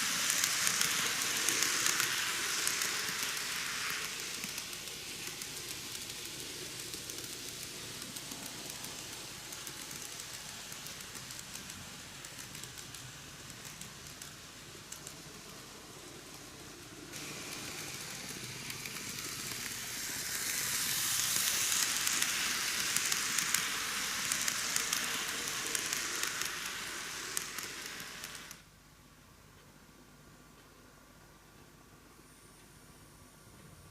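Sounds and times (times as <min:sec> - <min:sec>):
model train rattling on track: 0:00.0 - 0:28.6.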